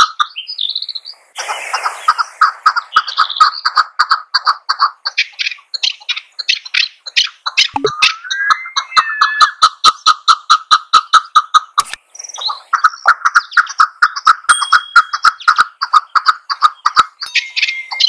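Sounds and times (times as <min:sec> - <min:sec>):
partridge chuk calls: 0:00.0 - 0:18.0.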